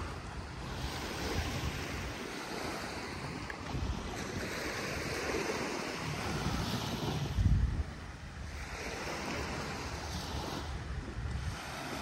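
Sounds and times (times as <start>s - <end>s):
small waves washing onto sand: 0.0s - 12.0s
wind buffeting microphone: 0.0s - 12.0s.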